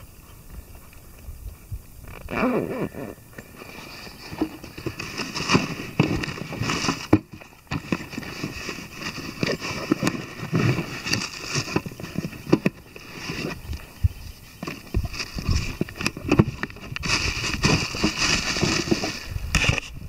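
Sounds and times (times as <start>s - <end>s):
bags rustling: 2.1s - 13.9s, 14.7s - 19.4s.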